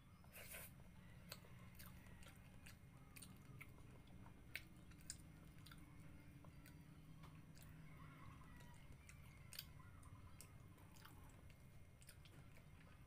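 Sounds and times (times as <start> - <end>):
chewing food: 0.3 - 13.0.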